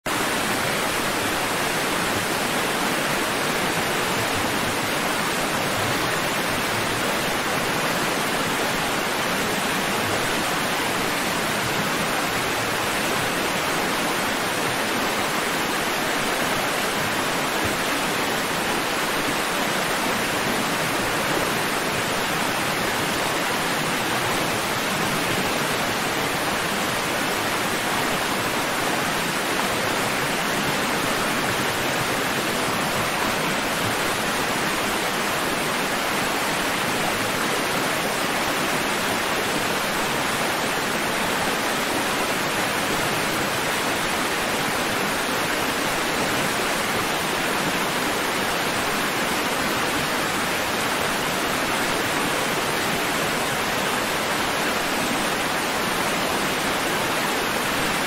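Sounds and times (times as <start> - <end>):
rushing water hiss: 0.1 - 58.0.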